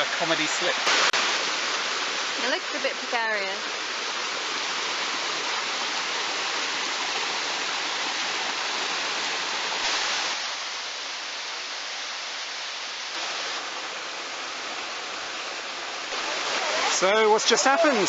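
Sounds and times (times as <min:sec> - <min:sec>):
waterfall rushing over rock: 0:00.0 - 0:18.0.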